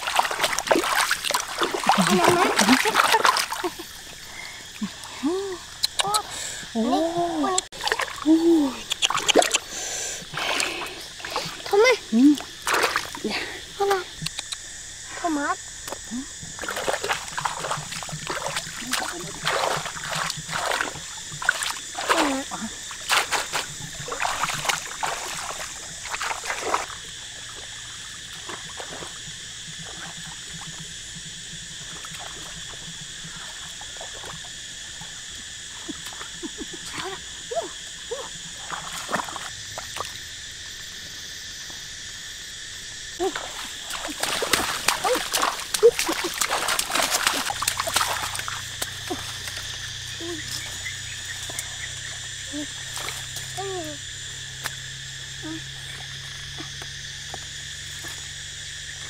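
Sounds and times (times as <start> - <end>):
splashing in shallow water: 0.0 - 40.6, 43.2 - 59.0
high insect chorus: 0.0 - 59.0.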